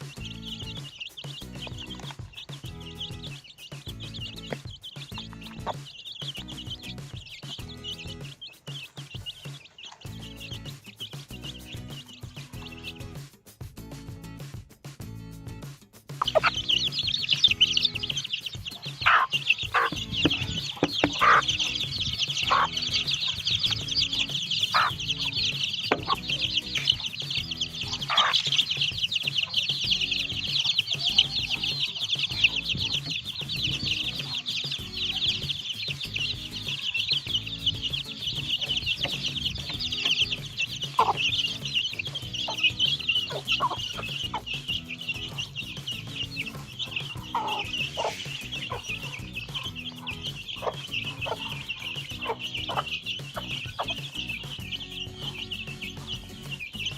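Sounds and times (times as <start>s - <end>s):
hen clucking: 0.0s - 13.2s, 16.2s - 56.9s
chicks cheeping: 0.0s - 56.9s.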